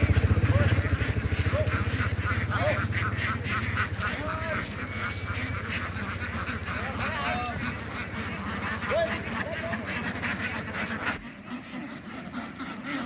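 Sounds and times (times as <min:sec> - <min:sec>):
engine idling: 0:00.0 - 0:11.0
ducks quacking: 0:00.0 - 0:13.0.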